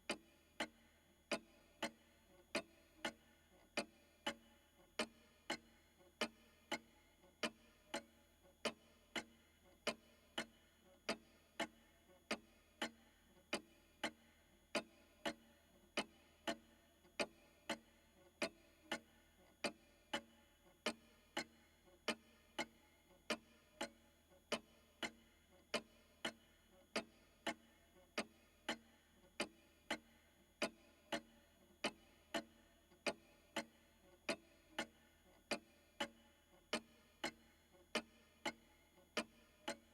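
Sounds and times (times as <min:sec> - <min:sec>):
pendulum clock ticking: 0:00.1 - 0:39.9.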